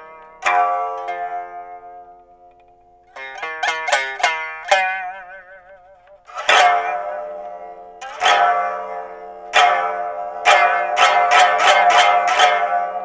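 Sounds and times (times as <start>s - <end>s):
lute plectrum strikes: 0.0s - 13.0s
lute plucked notes: 0.0s - 13.0s.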